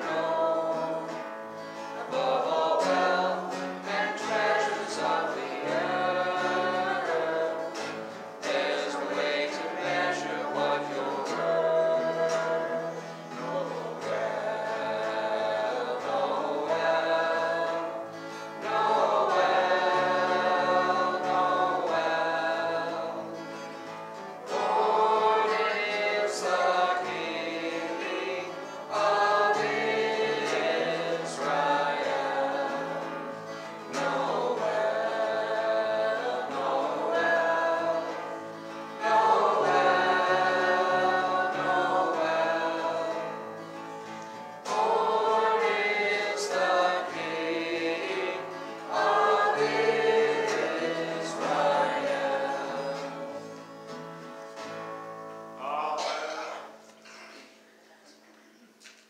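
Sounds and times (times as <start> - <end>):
voices singing together: 0.0 - 54.9
acoustic guitar: 0.0 - 59.0.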